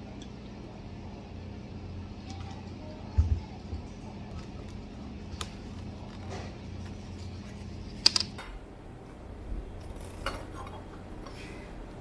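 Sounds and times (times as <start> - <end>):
low hum of room noise: 0.0 - 12.0.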